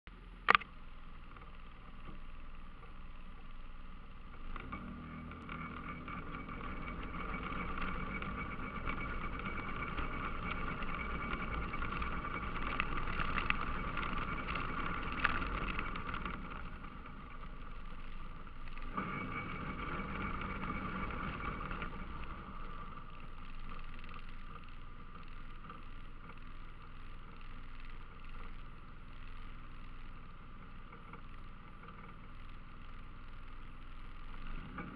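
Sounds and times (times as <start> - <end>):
atv engine running: 0.1 - 34.9
tyres rumbling on gravel: 0.5 - 34.9.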